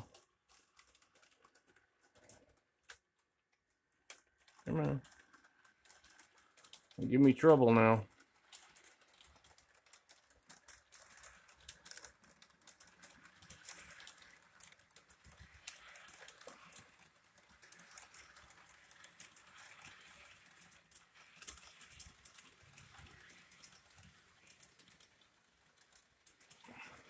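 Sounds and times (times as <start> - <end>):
model train cars clicking: 0.0 - 27.0.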